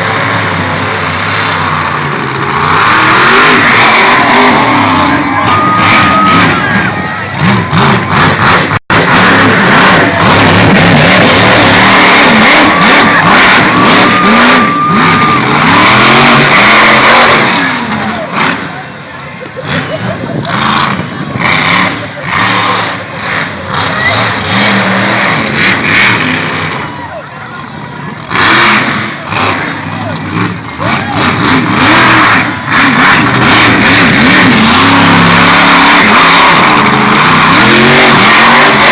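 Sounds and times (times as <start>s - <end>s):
monster truck engine revving: 0.0s - 38.9s.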